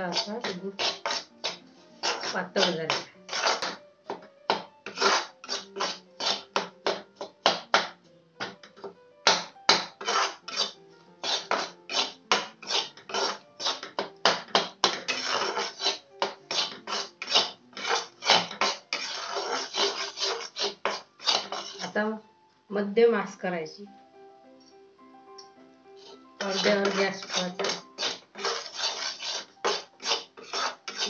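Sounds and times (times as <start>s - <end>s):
spatula scraping a pan: 0.0s - 8.6s, 9.4s - 22.0s, 26.0s - 31.0s
faint background music: 0.0s - 31.0s.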